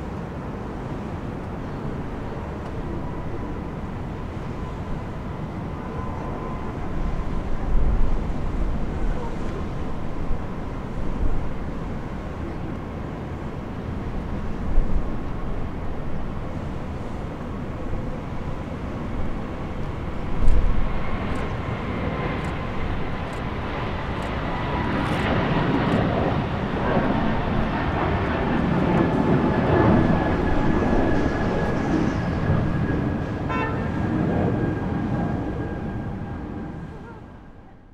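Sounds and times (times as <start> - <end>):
jet engines at takeoff: 0.0 - 37.9.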